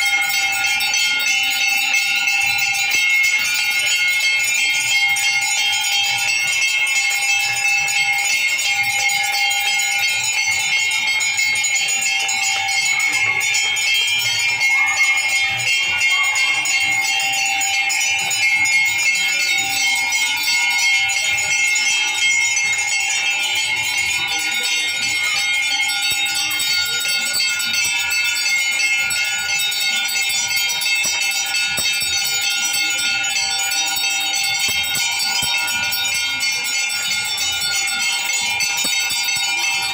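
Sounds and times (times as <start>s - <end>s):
brass bells clanging: 0.0s - 39.9s.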